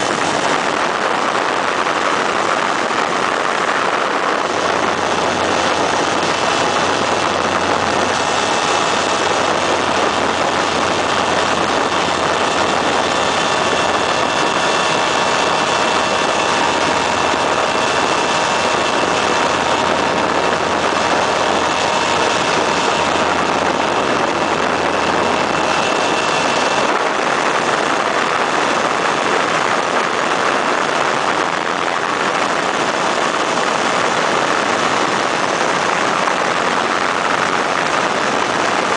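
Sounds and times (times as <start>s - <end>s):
heavy wind rush: 0.0s - 38.9s
ultralight engine and propeller drone: 0.0s - 38.9s.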